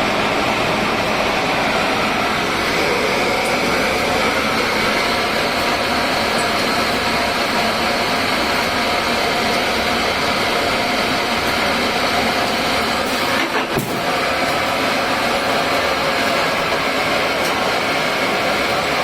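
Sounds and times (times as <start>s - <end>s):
industrial machine humming: 0.0s - 19.0s.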